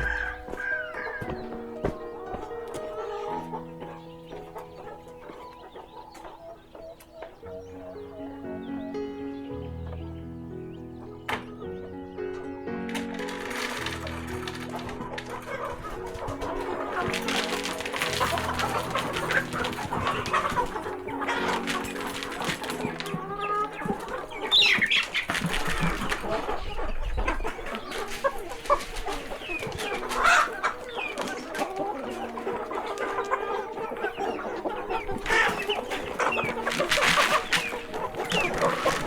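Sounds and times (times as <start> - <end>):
chickens clucking and calling: 0.0 - 39.0.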